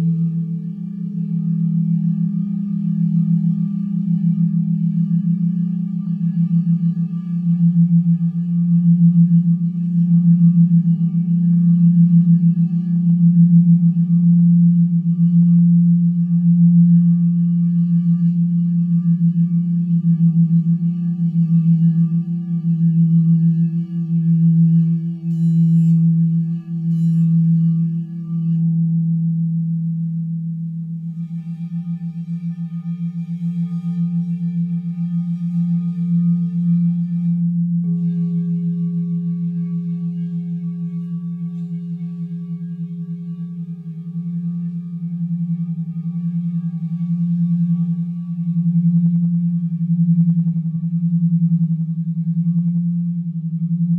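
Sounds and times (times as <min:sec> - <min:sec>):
singing bowl deep pulsing tone: 0:00.0 - 0:53.9.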